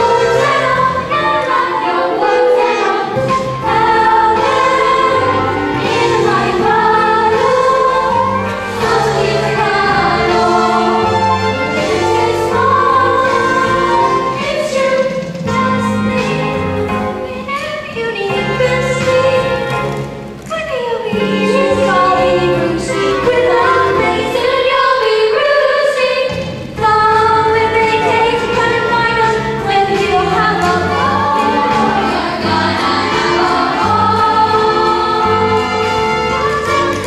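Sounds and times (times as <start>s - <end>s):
choir singing show tune: 0.0s - 19.7s, 20.9s - 37.0s
instrumental accompaniment: 0.0s - 37.0s.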